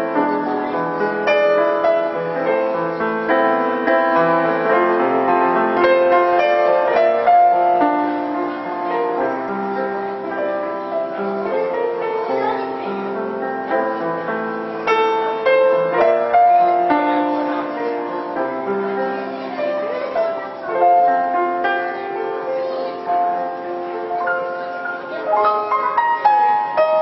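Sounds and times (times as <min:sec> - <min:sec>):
solo piano melody: 0:00.0 - 0:27.0.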